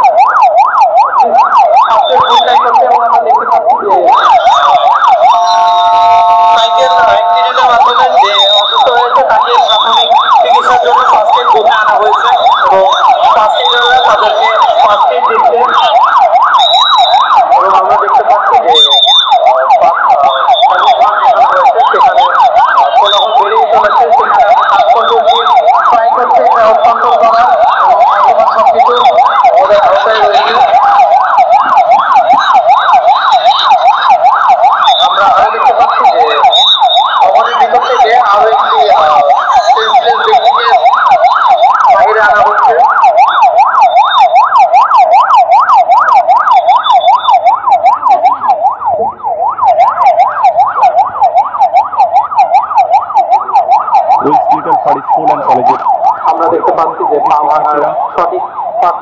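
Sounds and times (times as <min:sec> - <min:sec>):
ambulance siren yelping: 0:00.0 - 0:59.0.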